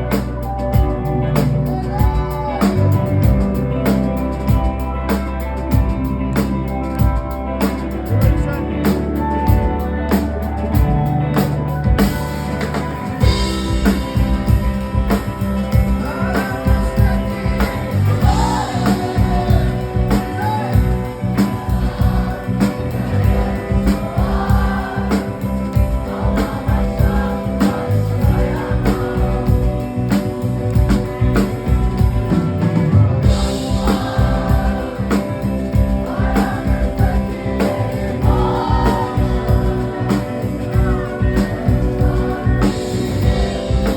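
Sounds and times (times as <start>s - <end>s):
person singing: 0.0s - 12.0s, 12.7s - 43.9s
bass guitar: 0.0s - 43.9s
drums: 0.0s - 43.9s
electric guitar: 0.0s - 43.9s.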